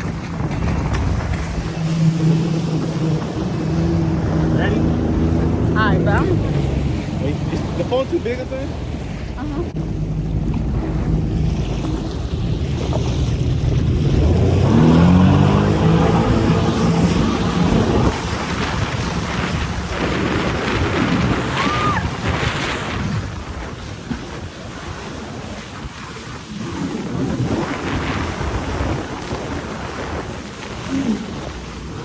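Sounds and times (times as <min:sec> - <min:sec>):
jet ski engine drone: 0:00.0 - 0:32.0
water rushing: 0:00.0 - 0:32.0
wind buffeting microphone: 0:00.0 - 0:32.0.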